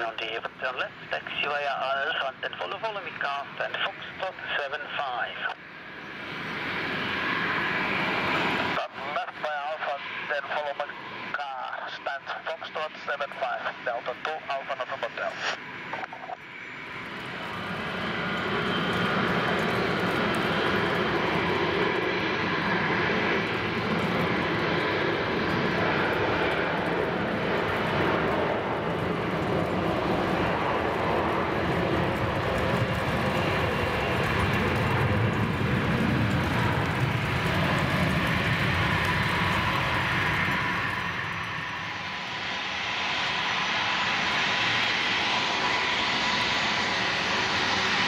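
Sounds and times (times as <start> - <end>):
jet engines rushing and rumbling: 0.0 - 48.0.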